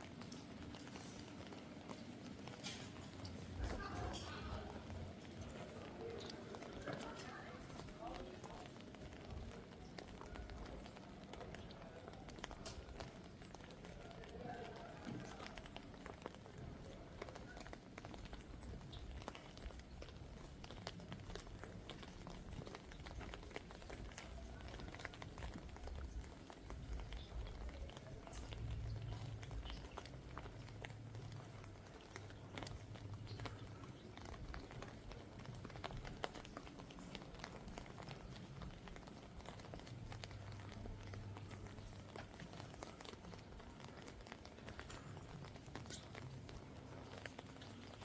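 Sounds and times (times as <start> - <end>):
light rain pattering: 0.0 - 48.0
footsteps on wet ground: 0.1 - 48.0.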